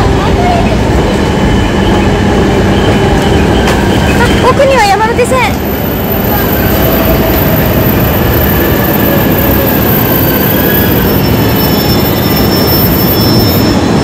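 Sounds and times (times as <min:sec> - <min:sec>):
train rumbling on tracks: 0:00.0 - 0:14.0
wheels squealing on rails: 0:00.0 - 0:14.0.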